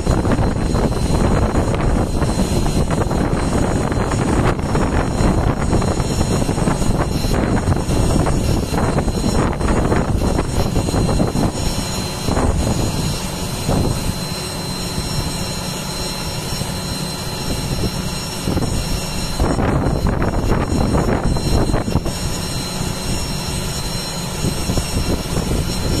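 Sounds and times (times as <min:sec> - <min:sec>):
jet engine rumble and whine: 0:00.0 - 0:26.0.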